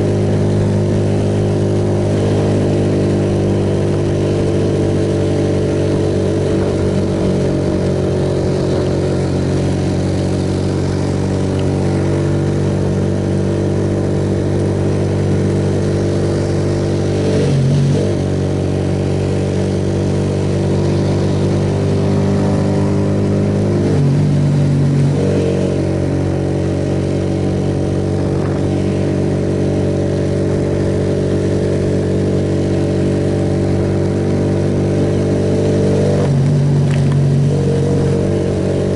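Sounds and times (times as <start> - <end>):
motorcycle engine running: 0.0 - 38.9
rush of wind noise: 0.0 - 38.9.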